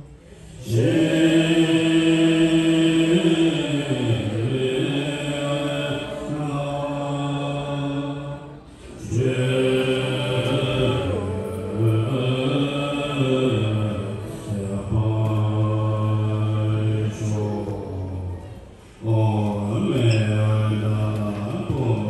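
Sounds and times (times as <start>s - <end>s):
mantra chanting in low tones: 0.6s - 22.0s.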